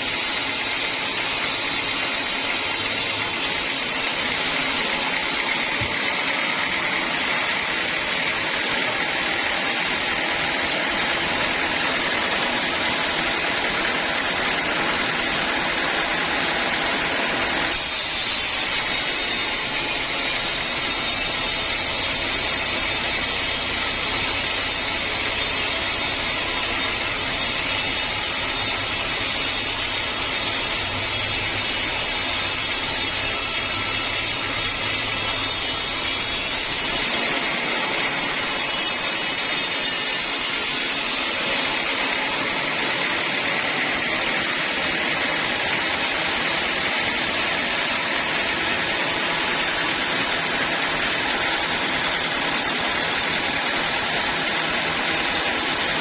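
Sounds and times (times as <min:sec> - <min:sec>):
sawmill saw cutting wood: 0:00.0 - 0:56.0.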